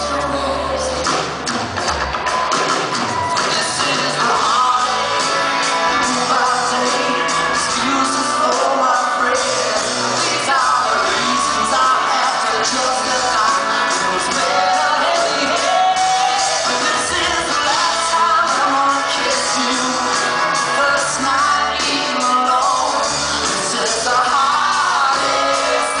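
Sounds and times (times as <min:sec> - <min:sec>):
man singing lead vocals: 0:00.0 - 0:01.3, 0:03.3 - 0:26.0
live rock band playing: 0:00.0 - 0:26.0.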